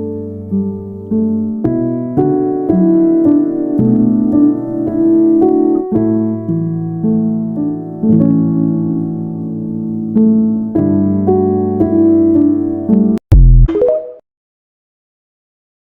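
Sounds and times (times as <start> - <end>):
slow piano music: 0.0 - 13.2.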